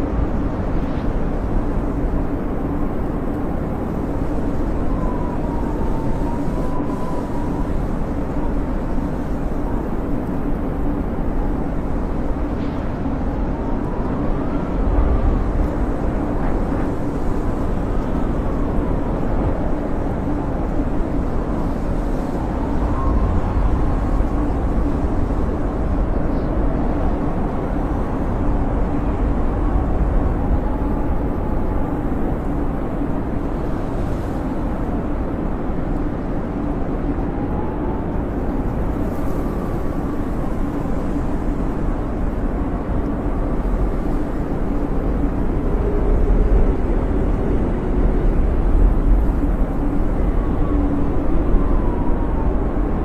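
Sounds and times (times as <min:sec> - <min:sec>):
howling blizzard wind: 0:00.0 - 0:53.0.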